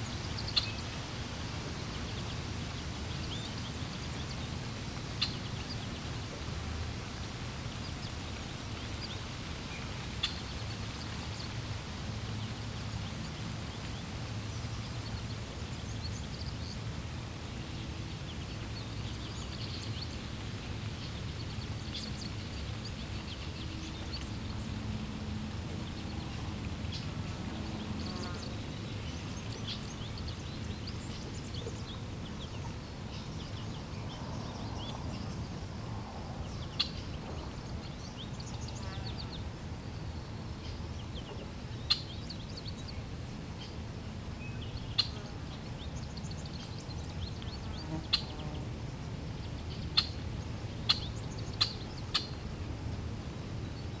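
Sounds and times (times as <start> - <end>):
flowing water: 0.0 - 54.0.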